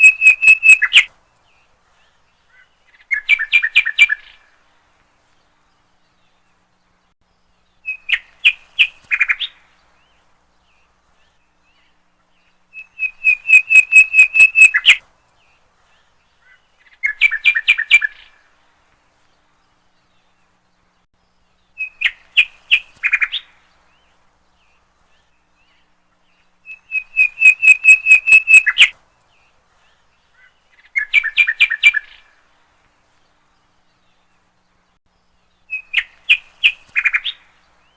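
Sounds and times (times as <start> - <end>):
bird chirping: 0.0 - 4.6, 5.2 - 37.9.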